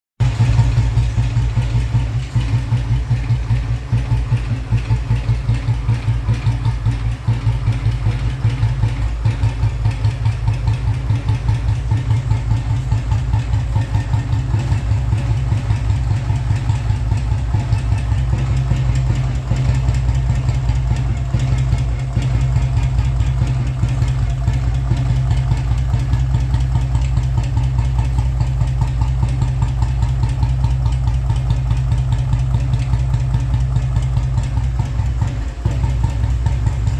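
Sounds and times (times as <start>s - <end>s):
motorcycle engine idling: 0.2s - 36.9s.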